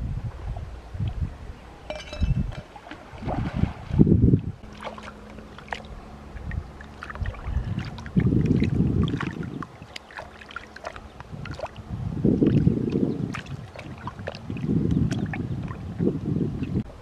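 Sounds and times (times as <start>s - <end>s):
water splashing and sloshing: 1.8s - 17.0s.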